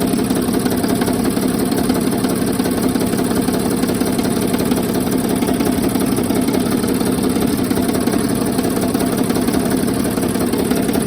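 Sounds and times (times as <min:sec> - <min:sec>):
diesel engine idling: 0:00.0 - 0:11.0
rapid engine knocking: 0:00.0 - 0:11.0.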